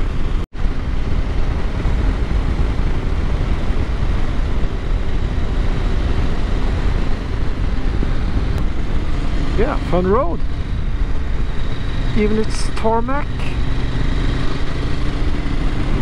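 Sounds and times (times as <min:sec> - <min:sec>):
motorcycle engine running: 0:00.0 - 0:16.0
wind rushing over microphone: 0:00.0 - 0:16.0.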